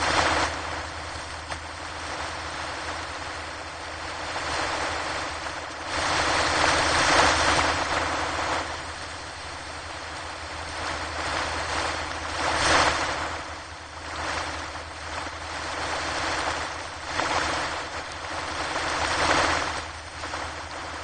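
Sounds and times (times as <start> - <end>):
ocean surf breaking on shore: 0.0 - 21.0.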